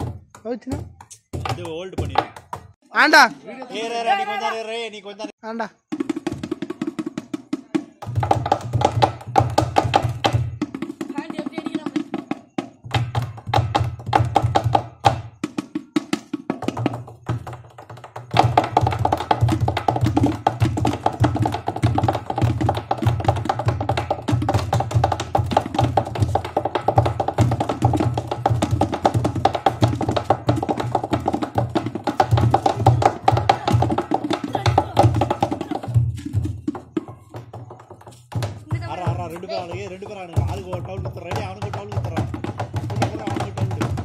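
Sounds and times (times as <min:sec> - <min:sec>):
hands drumming on plastic barrel: 0:00.0 - 0:02.8, 0:05.9 - 0:44.0.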